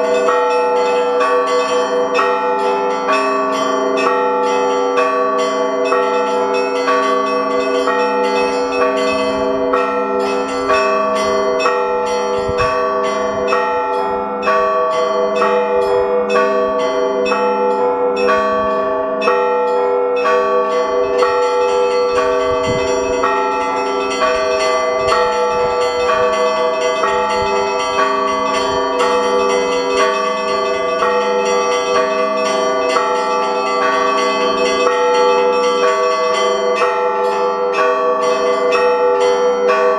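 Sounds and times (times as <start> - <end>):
hum of large bells: 0.0 - 39.9.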